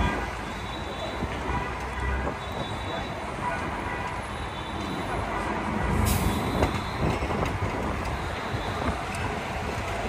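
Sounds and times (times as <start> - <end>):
bus engine rumble: 0.0 - 10.0
street traffic: 0.0 - 10.0.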